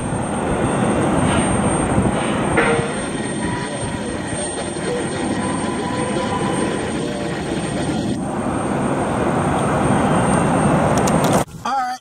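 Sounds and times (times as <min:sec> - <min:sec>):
jet airliner passing overhead: 0:00.0 - 0:11.5
faint jet whine: 0:00.0 - 0:11.7.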